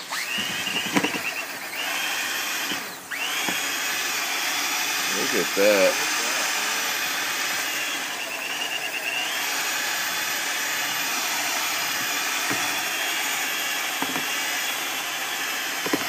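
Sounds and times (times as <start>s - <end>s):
power drill whirring: 0.0s - 16.0s.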